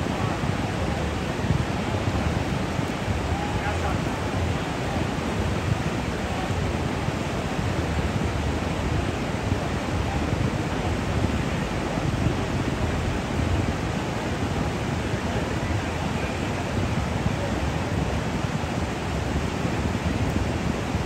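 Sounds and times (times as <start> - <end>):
whitewater rapids rushing: 0.0 - 21.0.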